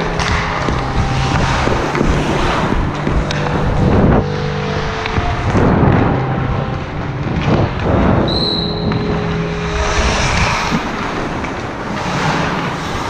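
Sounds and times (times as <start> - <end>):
skate blades scraping ice: 0.0 - 5.9, 7.4 - 13.0
wind noise on microphone: 0.0 - 12.0.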